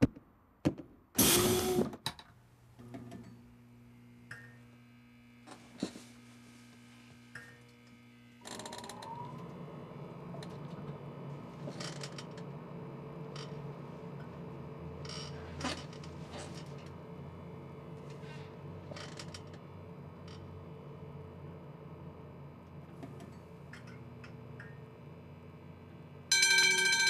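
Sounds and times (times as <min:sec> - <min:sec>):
low electrical hum: 0:01.3 - 0:27.0.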